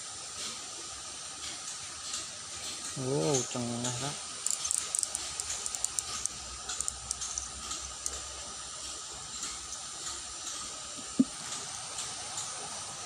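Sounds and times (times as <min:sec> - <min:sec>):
water running in a ditch: 0:00.0 - 0:13.0
light high ticks: 0:01.4 - 0:12.7.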